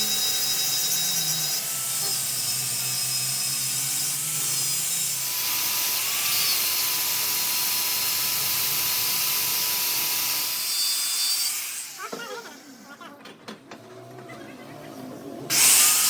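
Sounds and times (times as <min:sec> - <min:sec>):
power tool on metal: 0:00.0 - 0:13.0, 0:15.5 - 0:16.0.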